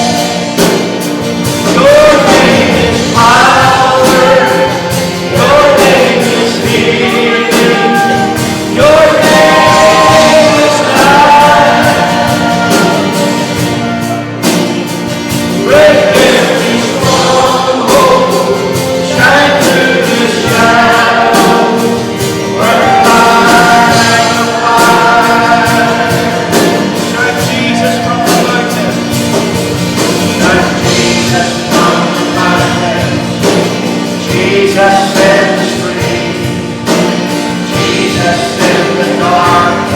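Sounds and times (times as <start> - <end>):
group singing worship song: 0.0 - 39.9
instrumental accompaniment: 0.0 - 39.9.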